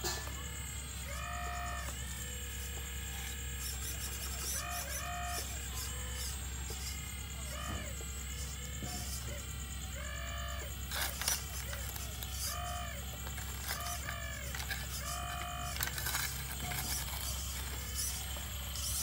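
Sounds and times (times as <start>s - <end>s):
electric motors whining: 0.0s - 19.0s
steady low hum: 0.0s - 19.0s.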